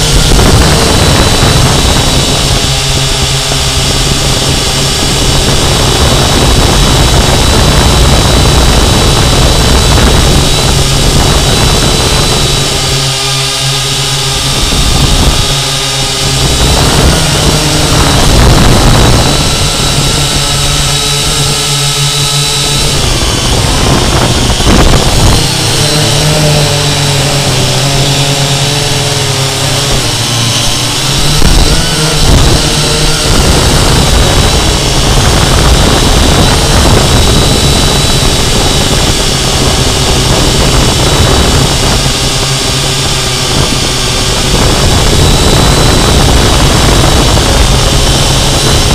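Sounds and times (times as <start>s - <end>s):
drone motors whirring: 0.0s - 48.9s.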